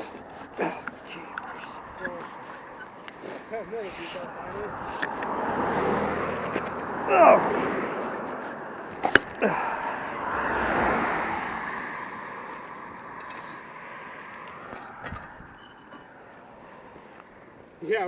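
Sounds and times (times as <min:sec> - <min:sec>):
road vehicle passing by: 0:00.0 - 0:18.0.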